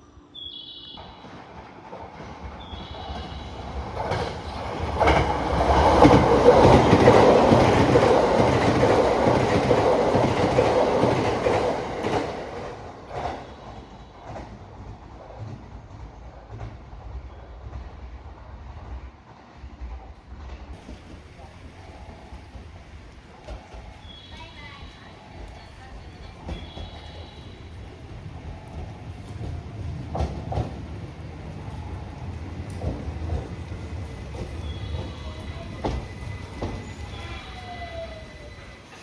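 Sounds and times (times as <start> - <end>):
train passing: 0.0 - 39.0
wheels clicking over rail joints: 1.2 - 16.8, 20.8 - 39.0.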